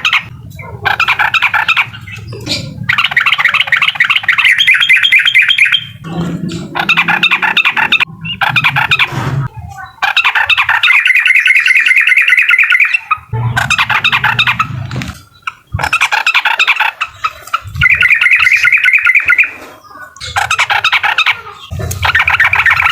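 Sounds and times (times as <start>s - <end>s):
bird chattering song: 0.0s - 22.9s.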